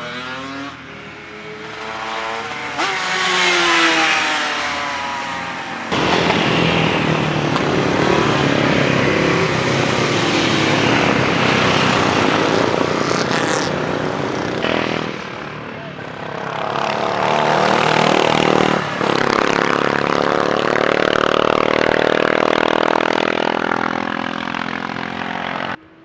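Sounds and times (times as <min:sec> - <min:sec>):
racing motorcycles revving past: 0:00.0 - 0:26.0.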